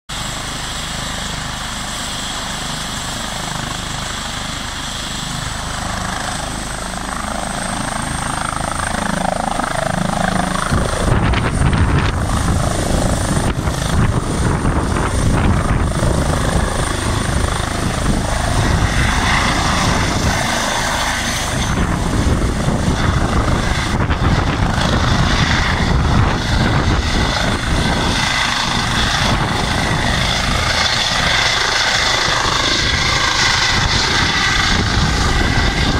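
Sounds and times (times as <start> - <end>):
helicopter rotor noise: 0.1 - 35.9
helicopter turbine whine: 0.1 - 35.9.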